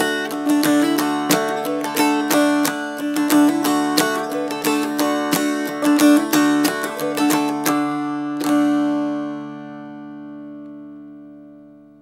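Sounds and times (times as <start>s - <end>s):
dulcimer strumming: 0.0s - 11.8s.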